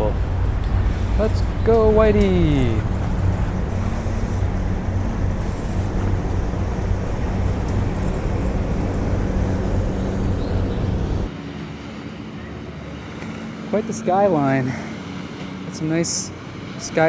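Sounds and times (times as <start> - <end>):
low engine drone: 0.0 - 16.6
outdoor noise: 0.0 - 17.0.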